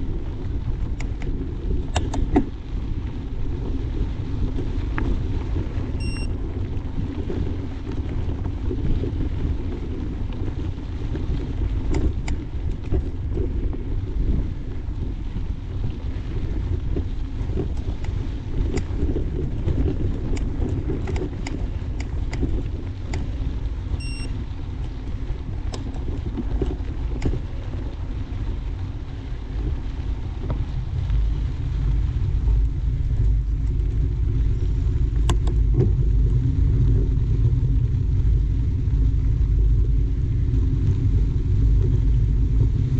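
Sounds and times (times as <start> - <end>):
bike clicks and rattles: 0.0 - 38.3
bike tyres rumbling on dirt: 0.0 - 42.9
wind on microphone: 0.0 - 42.9.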